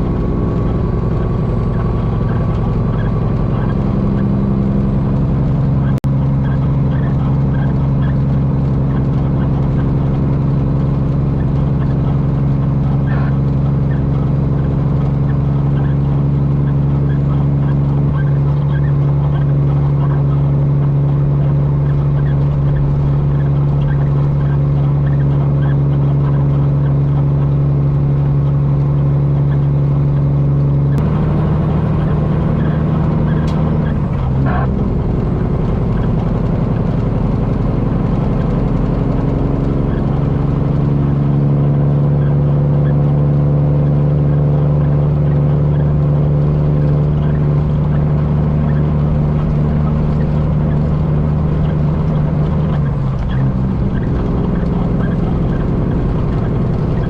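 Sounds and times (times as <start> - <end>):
diesel truck engine cruising: 0.0 - 57.0.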